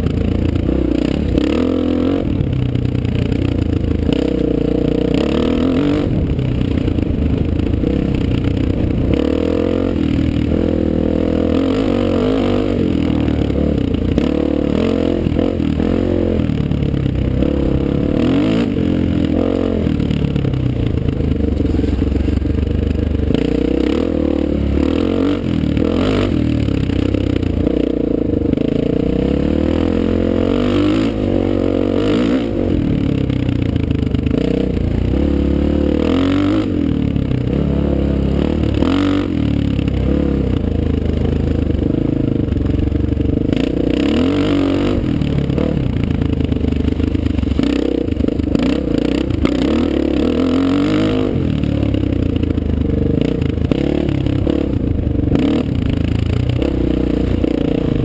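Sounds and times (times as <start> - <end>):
dirt bike engine revving: 0.0 - 2.6, 3.2 - 40.7, 43.4 - 52.4, 53.1 - 58.0.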